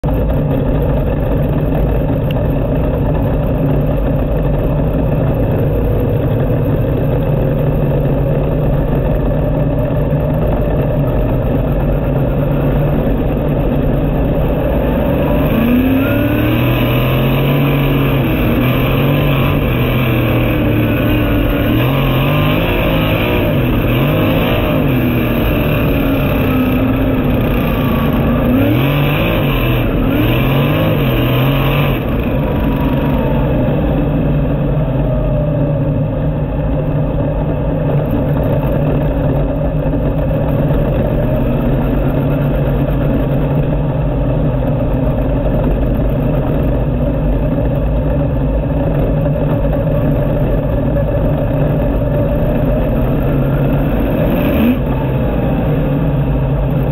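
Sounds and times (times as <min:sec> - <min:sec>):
race car engine revving: 0:00.0 - 0:34.7, 0:38.0 - 0:56.9.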